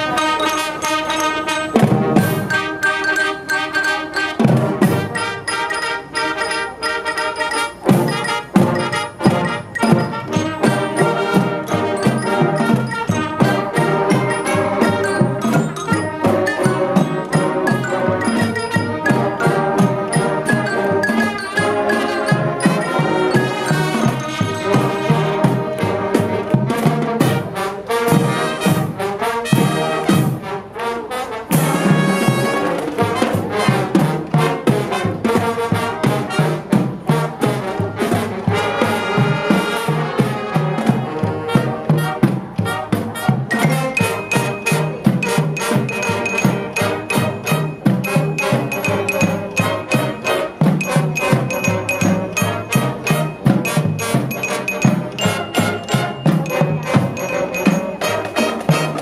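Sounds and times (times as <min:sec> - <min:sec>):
marching drums beat: 0:00.0 - 0:06.5, 0:07.1 - 0:30.5, 0:31.5 - 0:59.0
marching band playing: 0:00.0 - 0:59.0.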